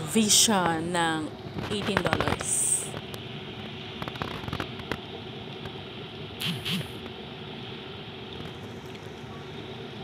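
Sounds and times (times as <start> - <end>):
electric kettle boiling: 0.0 - 10.0.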